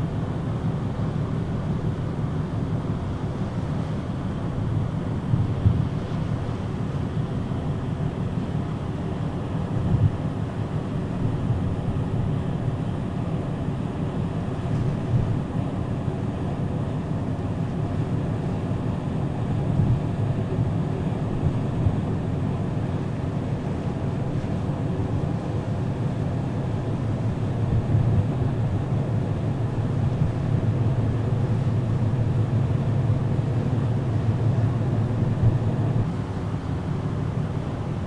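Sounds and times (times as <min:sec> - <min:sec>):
ship engine low drone: 0:00.0 - 0:38.0
wind and sea rushing: 0:00.0 - 0:38.0.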